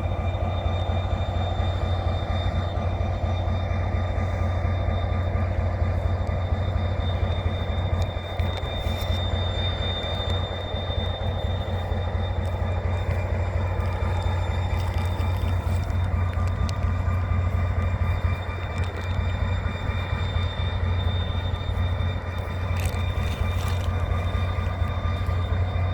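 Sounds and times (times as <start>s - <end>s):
diesel locomotive engine drone: 0.0s - 25.9s
thin steady high tones: 0.0s - 25.9s.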